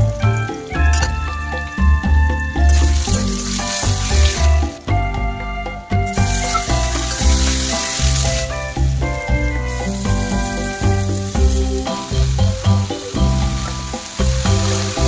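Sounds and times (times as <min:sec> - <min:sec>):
background music with bass line: 0:00.0 - 0:15.0
oil sizzling in a pan: 0:00.1 - 0:05.1, 0:05.9 - 0:15.0.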